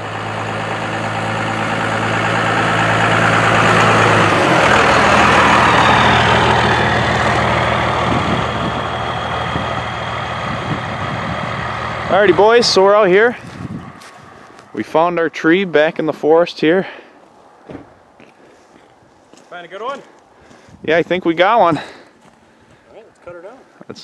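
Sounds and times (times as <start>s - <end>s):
diesel engine running: 0.0s - 23.7s.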